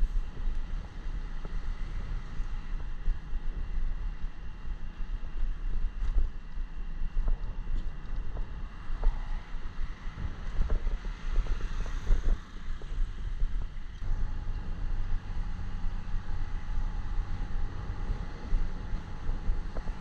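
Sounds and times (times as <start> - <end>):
motorcycle engine rumble: 0.0 - 20.0
wind buffeting microphone: 0.0 - 20.0.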